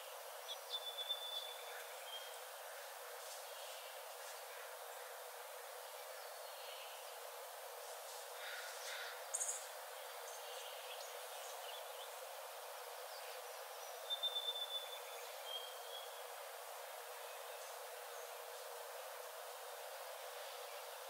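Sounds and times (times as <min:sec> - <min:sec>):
forest hiss: 0:00.0 - 0:21.0.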